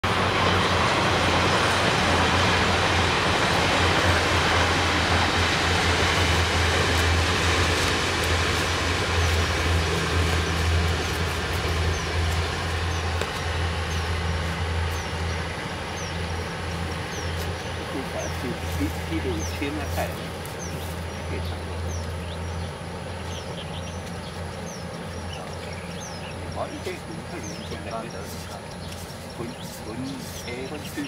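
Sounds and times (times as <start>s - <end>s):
steady low hum: 0.0s - 31.0s
train passing rumble: 0.0s - 31.0s.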